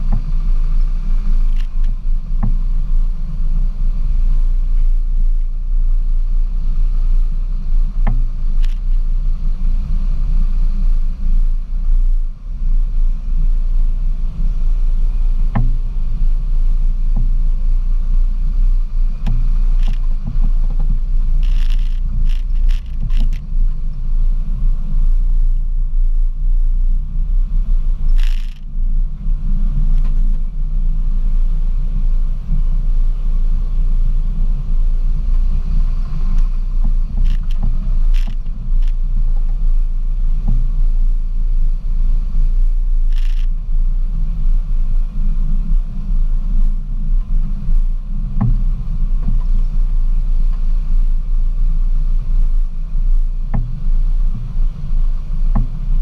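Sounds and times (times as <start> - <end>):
knocks and scrapes over ruts: 0.0 - 56.0
vehicle engine rumbling: 0.0 - 56.0.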